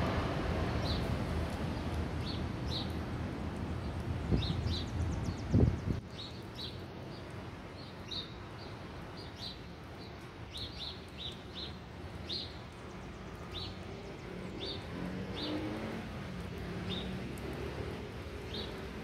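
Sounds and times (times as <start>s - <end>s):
small birds chirping: 0.8s - 3.0s, 3.8s - 19.0s.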